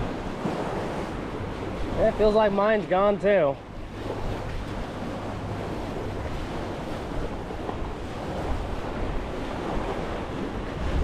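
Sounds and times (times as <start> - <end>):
waves washing on shore: 0.0 - 11.0
wind buffeting microphone: 0.0 - 11.0.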